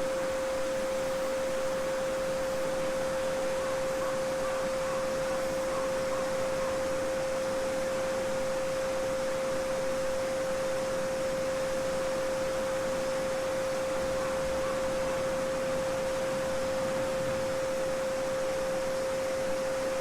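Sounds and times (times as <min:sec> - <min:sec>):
pure sine tone: 0:00.0 - 0:20.0.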